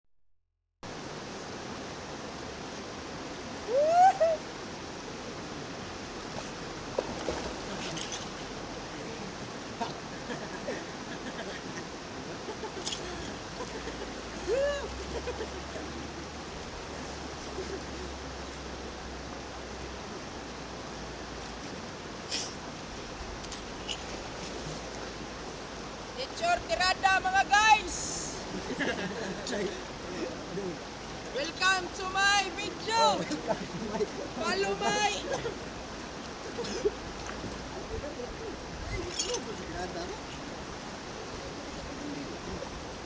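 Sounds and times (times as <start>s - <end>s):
water rushing from a spring: 0.8s - 43.0s.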